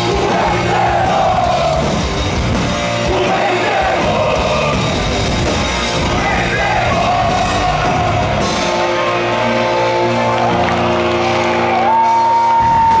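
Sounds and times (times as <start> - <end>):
punk band playing live: 0.0 - 13.0.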